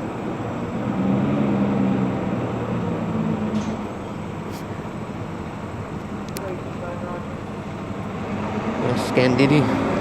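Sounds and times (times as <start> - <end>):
street noise: 0.0 - 10.0
vehicle engine humming: 0.0 - 10.0.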